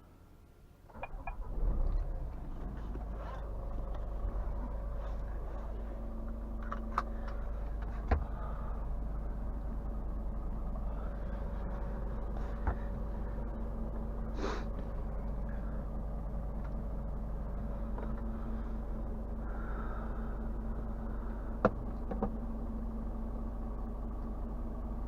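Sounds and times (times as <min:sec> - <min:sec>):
diesel engine cab rumble: 0:00.0 - 0:25.0.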